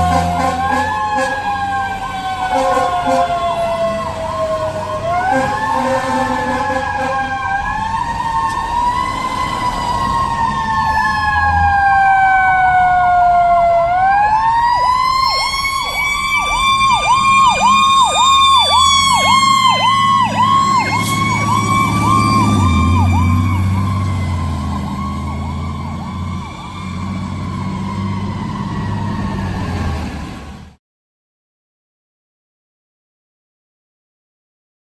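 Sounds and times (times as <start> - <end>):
fire engine siren: 0.0 - 30.8
truck rumble: 0.0 - 30.8.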